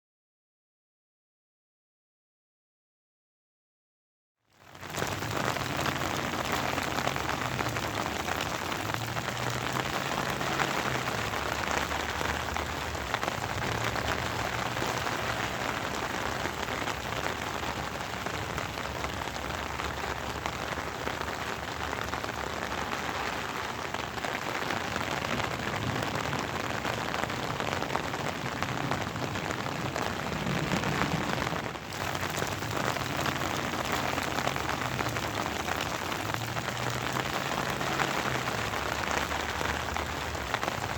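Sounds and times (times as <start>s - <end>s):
steady rain falling: 4.6s - 40.9s.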